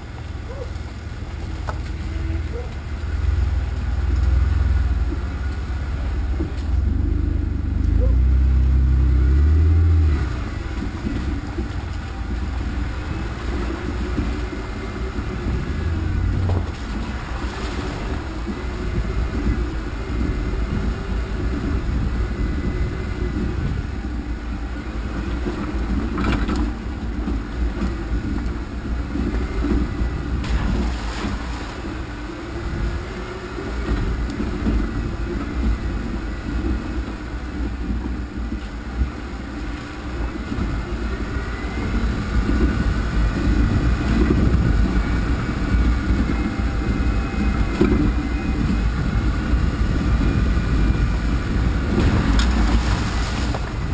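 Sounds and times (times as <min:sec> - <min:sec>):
off-road vehicle engine: 0:00.0 - 0:53.9
rumble from rough ground: 0:00.0 - 0:53.9.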